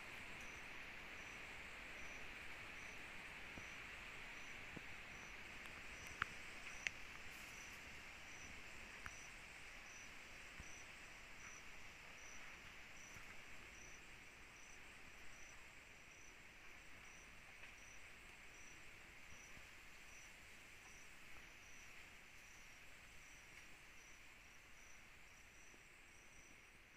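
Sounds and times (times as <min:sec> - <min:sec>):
insect chorus trilling: 0:00.1 - 0:26.9
insect chirping rhythmically: 0:00.2 - 0:26.9.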